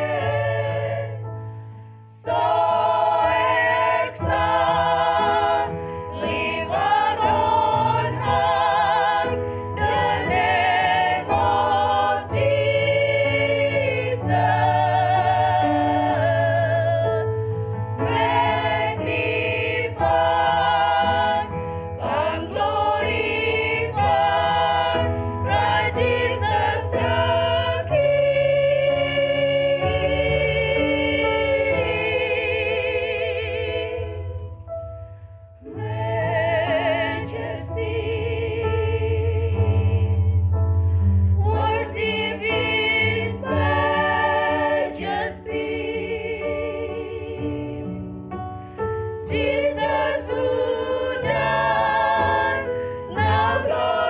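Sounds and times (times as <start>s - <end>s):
women's choir singing: 0.0s - 1.4s, 2.0s - 34.5s, 35.6s - 40.4s, 41.3s - 48.2s, 49.1s - 54.0s.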